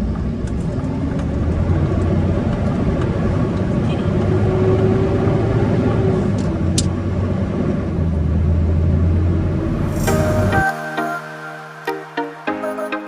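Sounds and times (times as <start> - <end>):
tow truck engine and road drone: 0.0 - 10.7.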